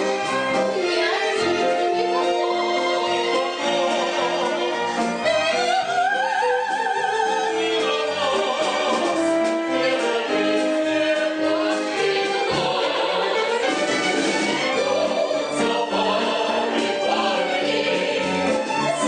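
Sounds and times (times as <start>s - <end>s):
operetta singing with vibrato: 0.3s - 19.0s.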